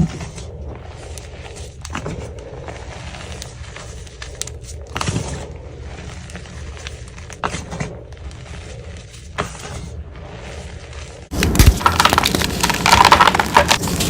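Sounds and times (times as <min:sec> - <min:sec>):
chalk blocks crunching: 0:00.0 - 0:14.0.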